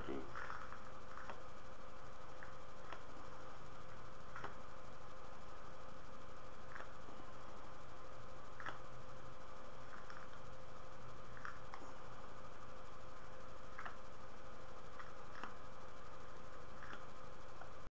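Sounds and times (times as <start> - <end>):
microphone hiss and hum: 0.0 - 17.9.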